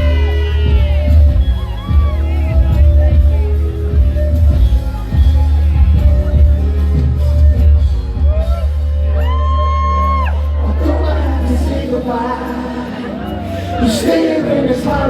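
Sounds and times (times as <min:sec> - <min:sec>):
crowd whooping and shouting: 0:00.0 - 0:15.0
r and b pop music through loudspeakers: 0:00.0 - 0:15.0.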